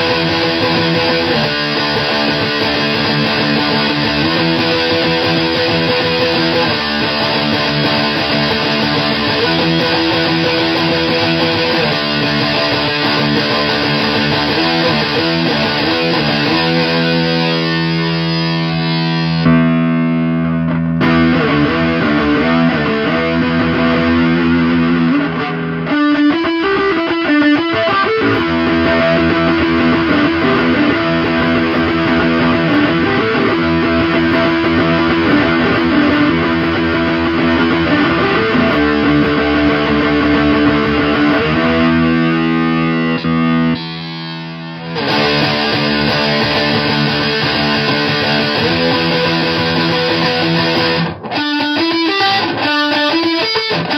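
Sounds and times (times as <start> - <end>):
distorted electric guitar chords: 0.0 - 53.9.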